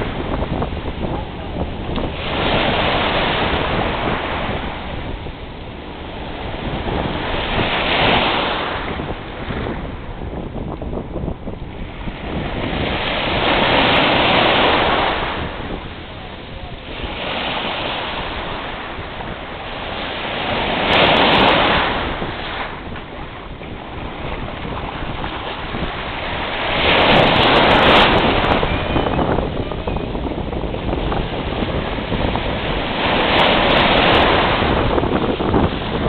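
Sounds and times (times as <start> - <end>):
surf breaking on beach: 0.0 - 36.0
wind buffeting microphone: 0.0 - 36.0.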